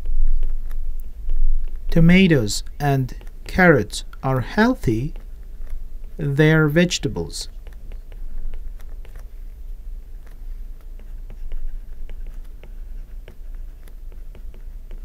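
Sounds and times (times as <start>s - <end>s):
pen scratching while writing: 0.0s - 4.2s, 5.1s - 6.2s, 7.5s - 15.0s
low steady hum: 0.0s - 15.0s.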